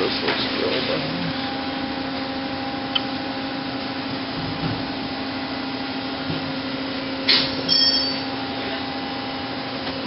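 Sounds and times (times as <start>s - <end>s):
machine humming at idle: 0.0s - 10.0s.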